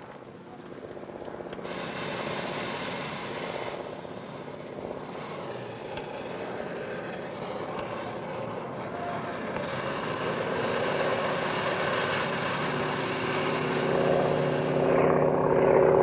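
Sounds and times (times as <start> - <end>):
propeller aircraft engine drone: 0.0 - 16.0.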